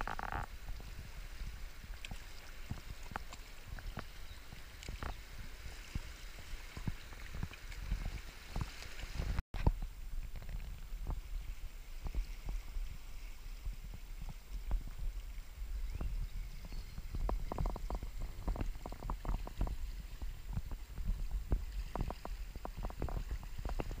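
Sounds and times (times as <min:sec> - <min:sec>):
muffled wind rumble on microphone: 0:00.0 - 0:24.0
river water swirling against rocks: 0:00.0 - 0:24.0.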